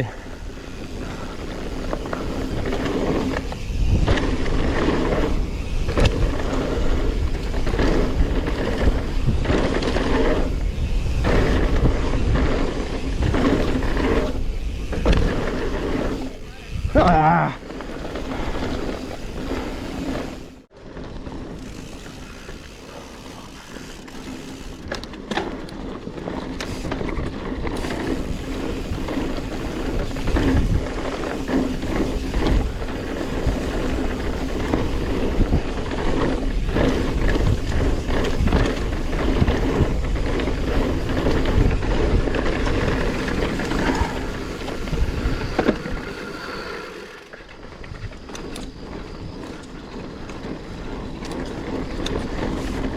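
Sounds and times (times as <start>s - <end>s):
bike rattling over bumps: 0.0s - 52.9s
bike tyres on dirt and rock: 0.0s - 52.9s.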